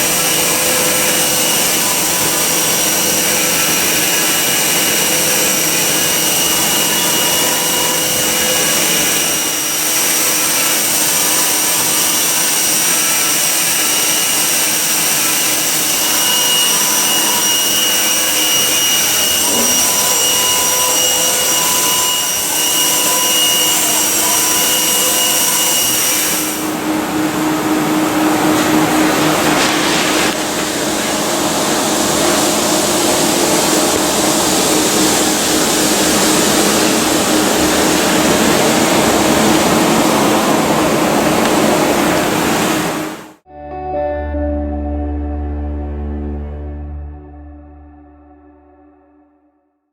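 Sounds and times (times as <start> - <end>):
machine hiss and whines: 0.0 - 43.4.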